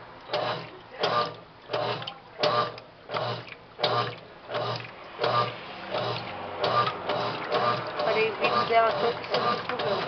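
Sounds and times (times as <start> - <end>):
washing machine spinning rhythmically: 0.0 - 10.0.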